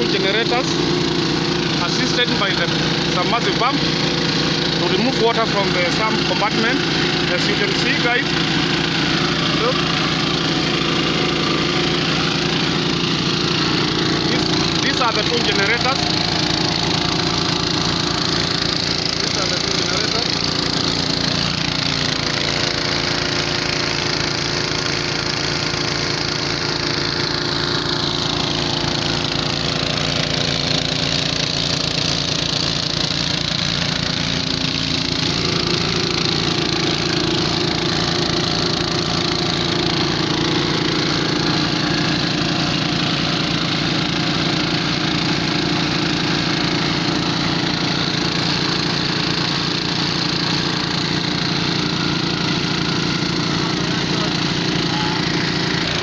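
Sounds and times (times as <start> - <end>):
generator engines chugging: 0.0 - 56.0.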